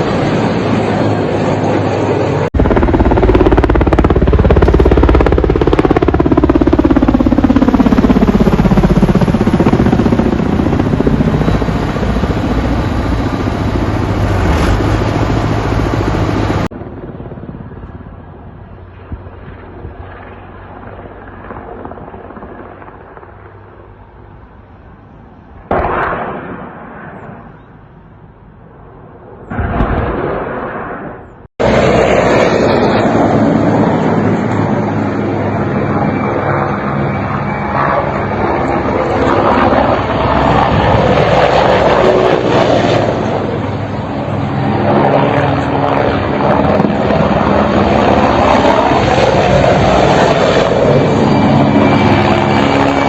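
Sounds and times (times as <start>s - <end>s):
helicopters flying low past: 0.0s - 53.0s.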